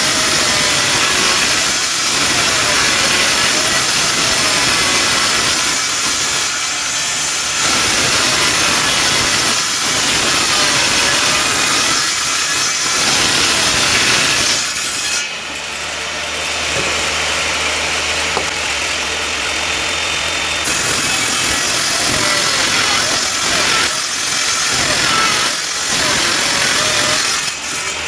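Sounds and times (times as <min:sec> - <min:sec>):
woodworking power tool: 0:00.0 - 0:28.0.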